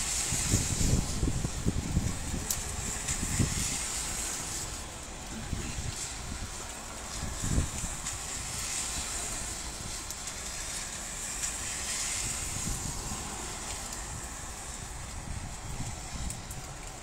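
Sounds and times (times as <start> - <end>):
car tyres swishing through water: 0.0 - 17.0
heavy rain pouring: 0.0 - 17.0.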